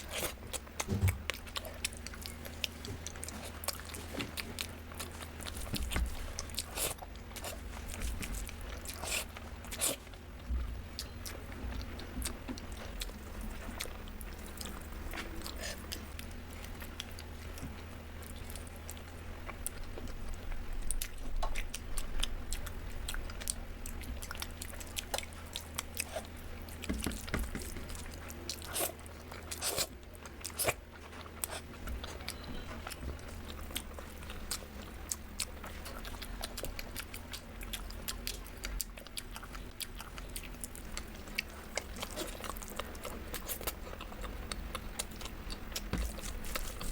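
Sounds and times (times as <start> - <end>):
crunchy chewing: 0.0 - 46.9
steady low hum: 0.0 - 46.9.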